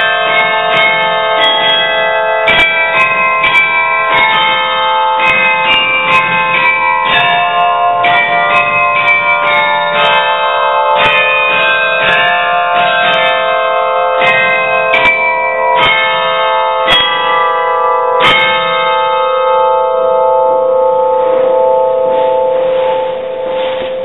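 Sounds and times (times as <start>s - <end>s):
carillon bells playing: 0.0s - 24.0s.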